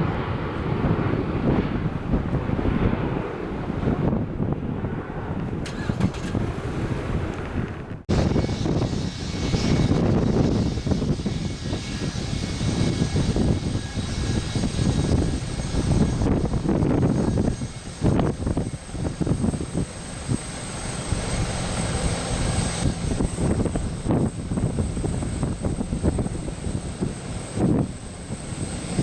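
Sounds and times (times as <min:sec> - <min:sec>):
jet airliner engines whining: 0:00.0 - 0:29.0
wind buffeting microphone: 0:00.0 - 0:29.0.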